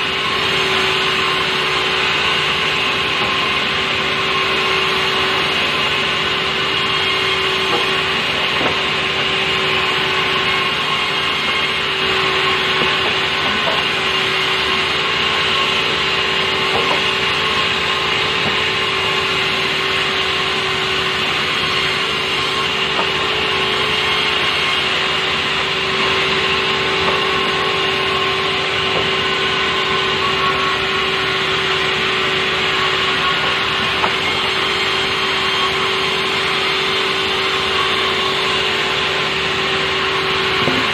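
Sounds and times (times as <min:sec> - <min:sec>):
saw cutting timber with whine: 0:00.0 - 0:40.9.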